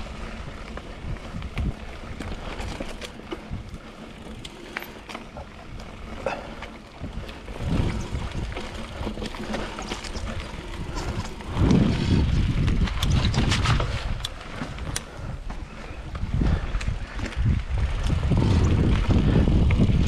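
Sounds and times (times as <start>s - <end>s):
bike clicks and rattles: 0.0s - 20.0s
bike tyres rolling on dirt: 0.0s - 20.0s
wind rumbling on microphone: 0.0s - 20.0s.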